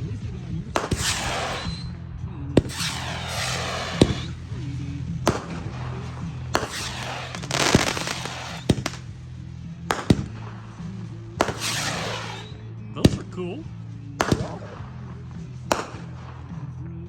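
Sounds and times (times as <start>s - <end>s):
firework shots firing: 0.7s - 13.5s, 14.2s - 16.7s
crackling whizzing firework effects: 0.7s - 13.6s, 14.2s - 16.6s.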